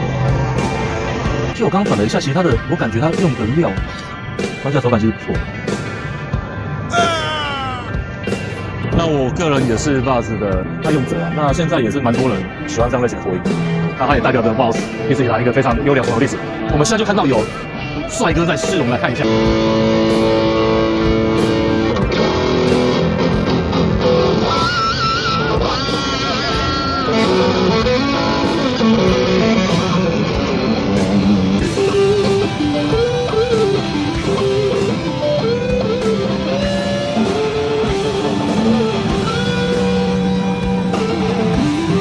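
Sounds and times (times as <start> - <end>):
electric guitar lead lines: 0.0 - 42.0.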